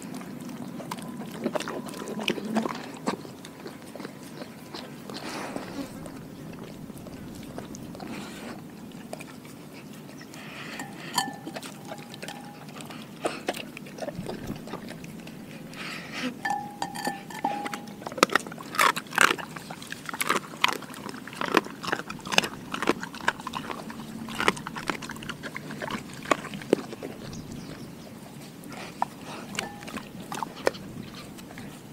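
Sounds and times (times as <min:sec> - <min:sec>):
dog chewing with crunches: 0:00.0 - 0:31.9.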